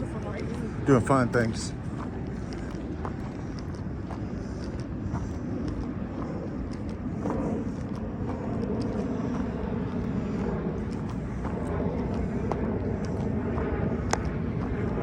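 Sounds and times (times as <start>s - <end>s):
distant road traffic: 0.0s - 15.0s
light footsteps on trail: 0.0s - 15.0s.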